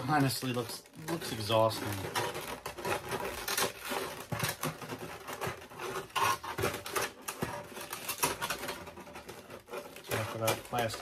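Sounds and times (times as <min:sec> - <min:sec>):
plastic blister tray crinkling: 0:00.0 - 0:11.0.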